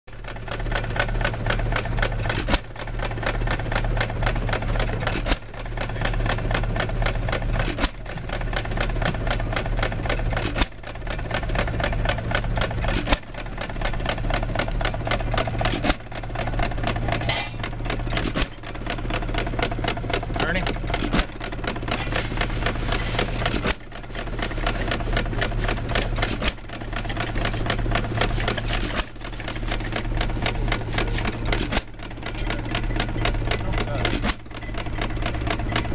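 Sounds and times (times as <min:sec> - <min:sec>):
valve gear clicking: 0:00.2 - 0:35.9.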